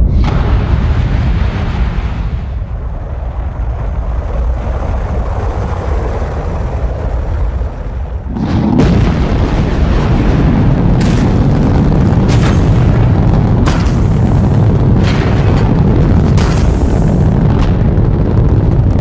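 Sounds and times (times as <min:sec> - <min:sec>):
rocket engines rumbling: 0:00.0 - 0:19.0.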